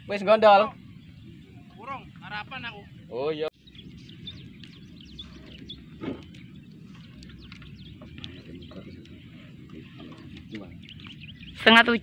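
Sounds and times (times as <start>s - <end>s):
birds chirping: 0.0s - 12.0s
low outdoor rumble: 0.0s - 12.0s.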